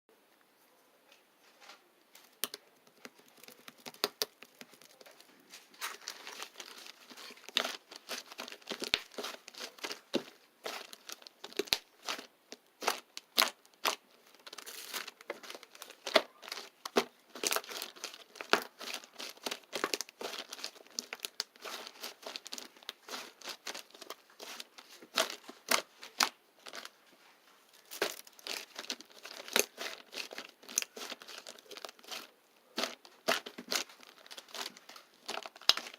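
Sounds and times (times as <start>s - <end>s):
thin material crinkling: 1.1s - 35.9s.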